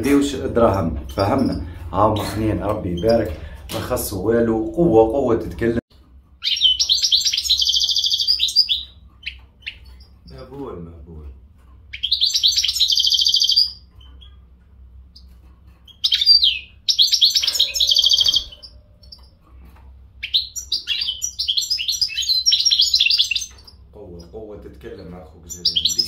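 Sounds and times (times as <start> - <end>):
bird twittering song: 0.0 - 5.1, 6.4 - 10.8, 11.6 - 26.0.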